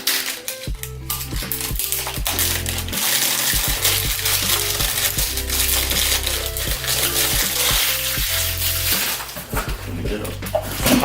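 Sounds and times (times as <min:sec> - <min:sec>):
background music with beat: 0:00.0 - 0:11.0
packaging rustling and crackling: 0:00.0 - 0:11.0.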